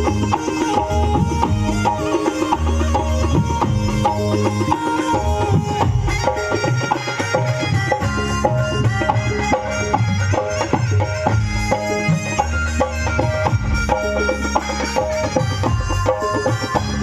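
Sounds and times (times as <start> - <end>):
loud recorded music with drum beat: 0.0 - 17.0.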